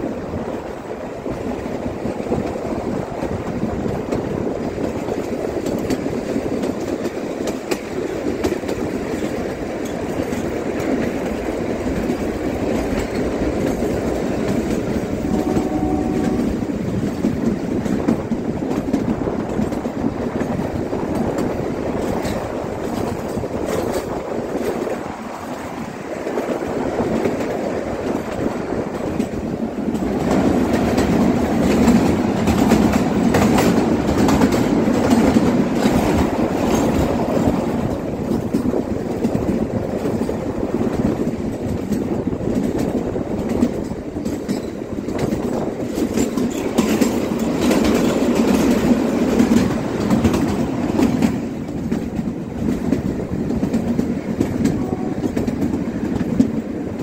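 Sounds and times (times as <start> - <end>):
train coaches rumbling: 0.0 - 57.0
wheels clicking over rail joints: 0.0 - 57.0.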